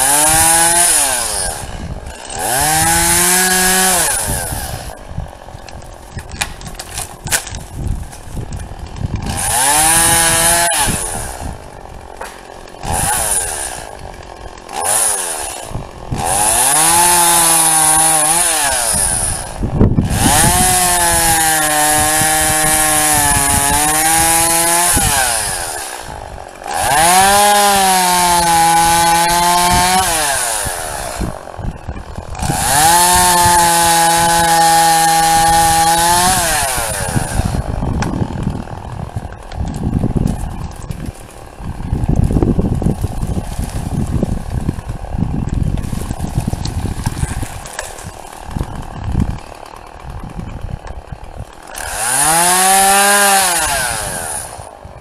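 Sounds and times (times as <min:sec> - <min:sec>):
chainsaw cutting through trees: 0:00.0 - 0:55.0
chainsaw idling and revving: 0:00.0 - 0:55.0.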